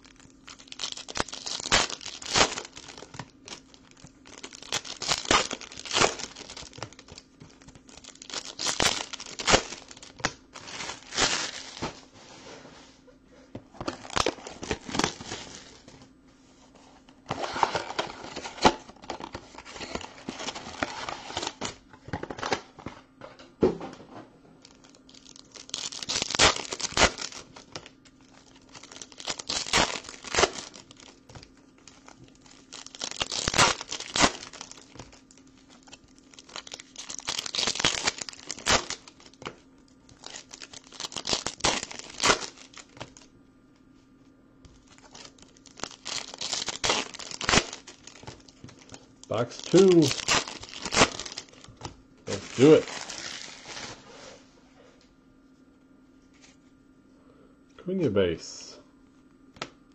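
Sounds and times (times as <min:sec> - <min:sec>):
foil wrappers crinkling and tearing: 0:00.0 - 0:12.0, 0:13.8 - 0:16.0, 0:17.3 - 0:22.8, 0:24.6 - 0:43.3, 0:44.8 - 0:54.4.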